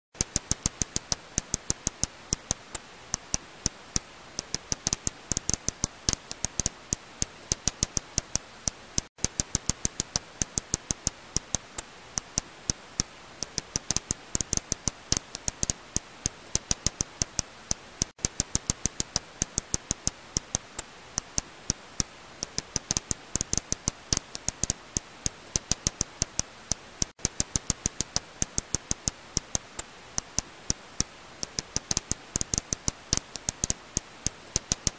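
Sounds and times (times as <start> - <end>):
bat echolocation clicks: 0.2 - 34.9
steady hiss: 0.2 - 34.9.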